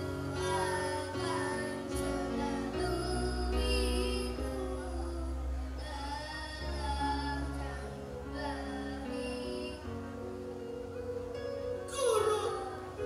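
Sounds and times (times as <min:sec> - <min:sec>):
boy singing into microphone: 0:00.0 - 0:10.3, 0:11.9 - 0:13.0
instrumental backing track: 0:00.0 - 0:13.0.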